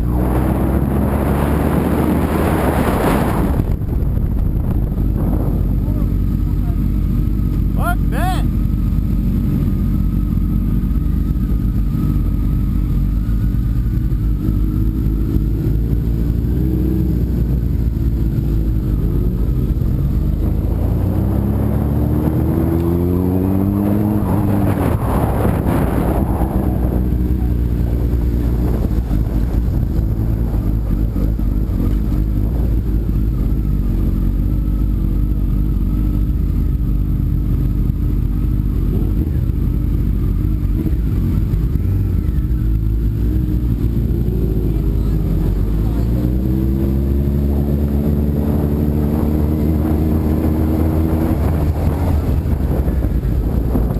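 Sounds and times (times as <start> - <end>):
motorcycle engine running: 0.0 - 53.9
rushing wind: 0.0 - 53.9.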